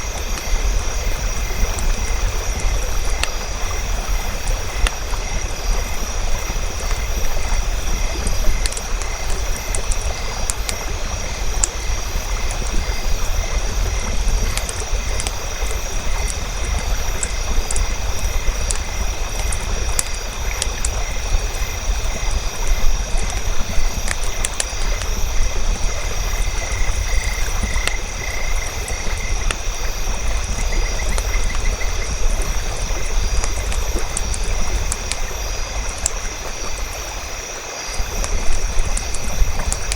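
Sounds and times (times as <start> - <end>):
campfire crackling: 0.0 - 39.9
flowing water: 0.0 - 39.9.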